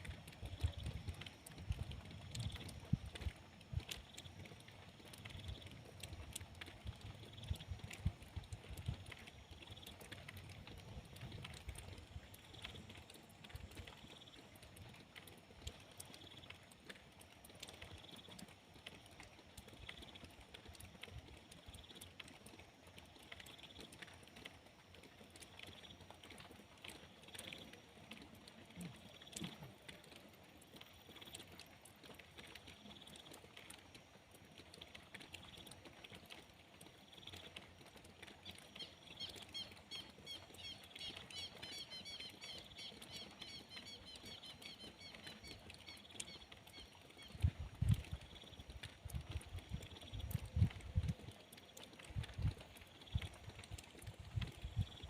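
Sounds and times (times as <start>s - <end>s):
light rain pattering: 0.0s - 55.0s.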